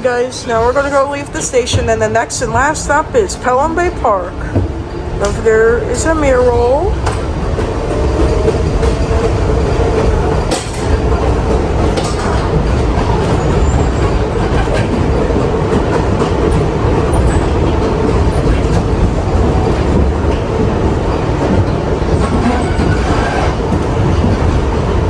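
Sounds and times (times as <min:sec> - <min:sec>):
subway car rumble: 0:00.0 - 0:25.0
wheels clicking over rail joints: 0:04.4 - 0:24.6.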